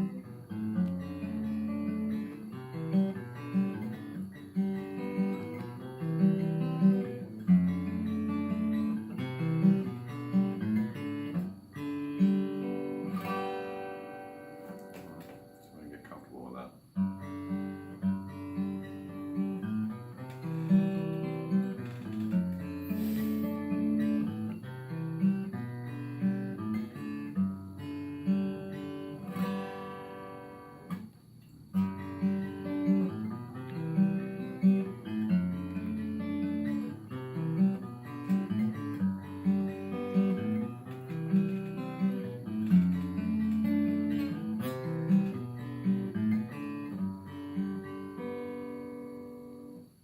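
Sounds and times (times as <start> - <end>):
acoustic guitar picking: 0.0 - 50.0.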